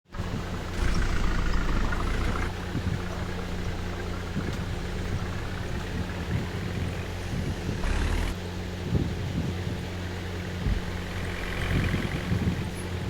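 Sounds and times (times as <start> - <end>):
truck engine running: 0.1 - 13.0.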